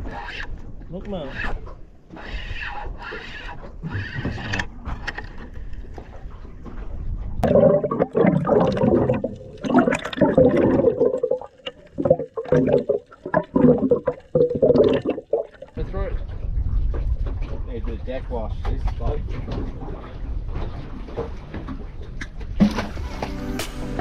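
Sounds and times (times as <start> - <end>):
water sloshing and gurgling: 0.0 - 23.4.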